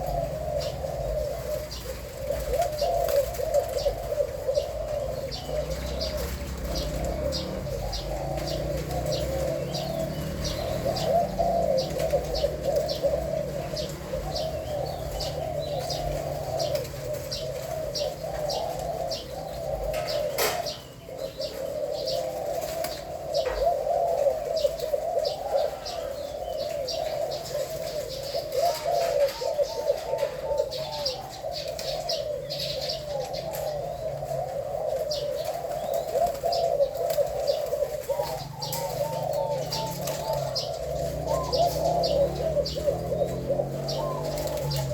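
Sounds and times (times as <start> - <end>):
doves cooing: 0.0 - 44.9.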